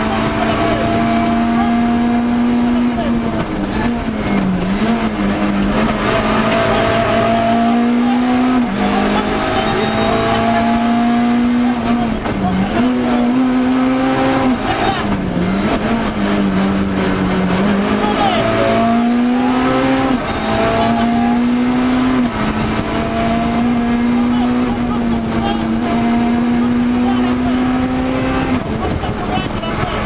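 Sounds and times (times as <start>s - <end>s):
car engine at high revs: 0.0s - 30.0s.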